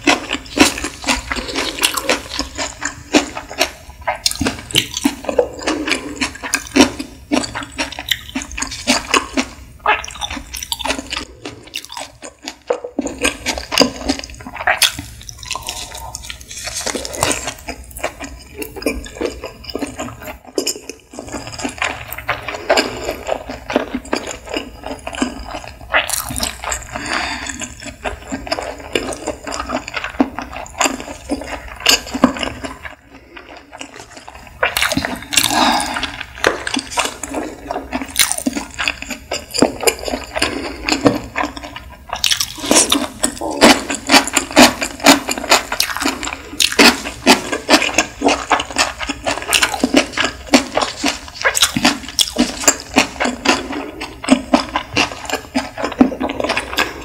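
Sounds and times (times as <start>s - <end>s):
wet mouth chewing clicks: 0.1s - 57.0s.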